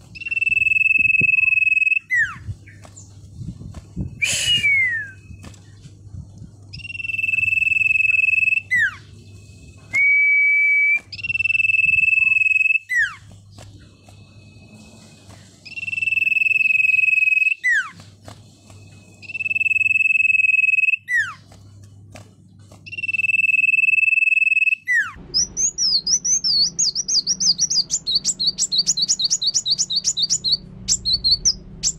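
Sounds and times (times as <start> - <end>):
songbird whistling and chirping: 0.1 - 3.1, 4.0 - 5.9, 6.7 - 18.0, 19.2 - 21.5, 22.8 - 31.9.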